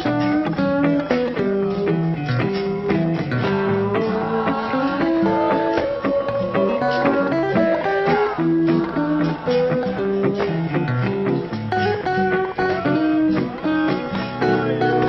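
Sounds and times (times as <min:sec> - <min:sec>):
blues guitar playing: 0:00.0 - 0:15.0.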